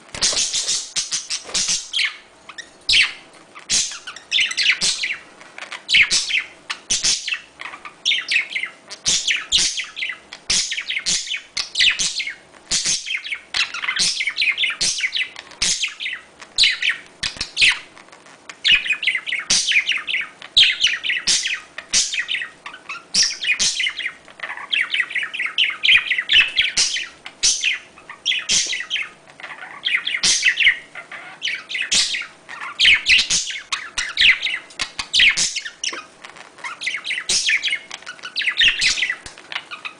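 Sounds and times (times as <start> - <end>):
budgerigars chattering: 0.2 - 17.9, 18.6 - 39.9.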